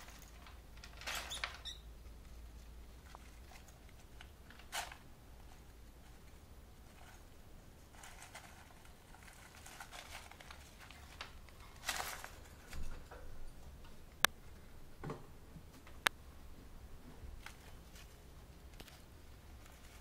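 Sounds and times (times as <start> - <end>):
rustling and scraping in cage: 0.0 - 14.6, 17.0 - 20.0.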